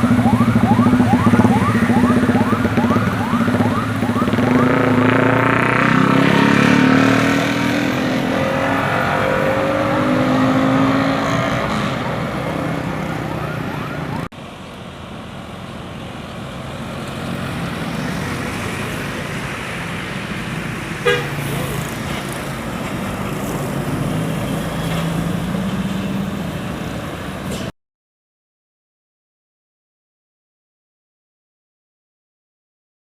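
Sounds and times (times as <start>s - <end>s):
bus engine drone: 0.0s - 27.7s
road traffic noise: 0.0s - 27.7s.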